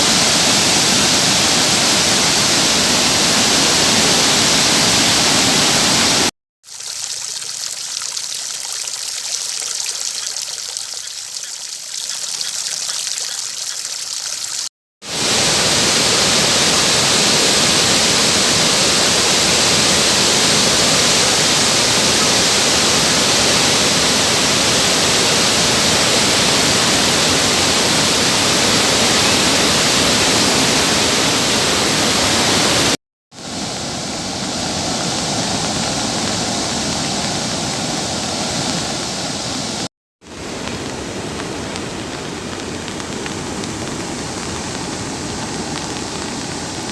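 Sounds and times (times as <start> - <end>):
floodwater rushing: 0.0 - 46.9.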